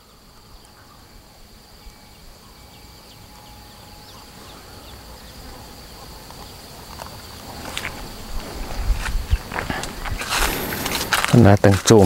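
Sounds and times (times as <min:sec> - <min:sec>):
insect high-pitched buzz: 0:00.0 - 0:12.0.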